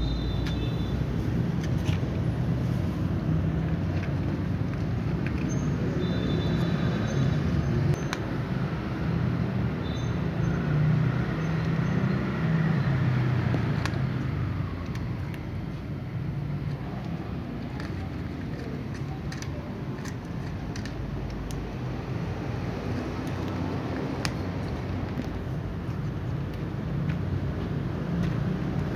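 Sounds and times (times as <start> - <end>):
motor vehicle rumble: 0.0 - 28.9.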